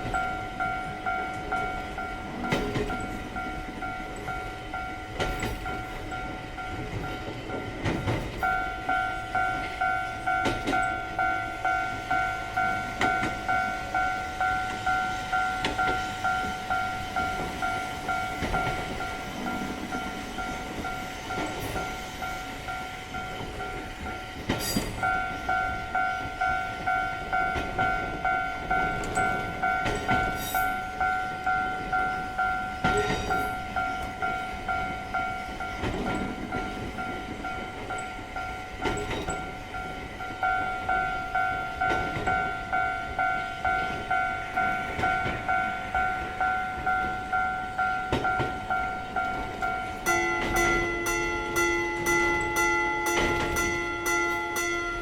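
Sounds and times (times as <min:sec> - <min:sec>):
level crossing warning bell: 0:00.0 - 0:55.0
train running over rails: 0:00.0 - 0:55.0.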